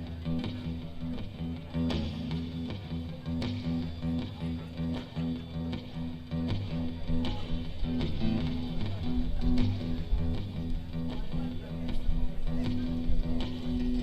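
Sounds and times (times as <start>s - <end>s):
drums: 0.0s - 14.0s
guitar and bass riff: 0.0s - 14.0s.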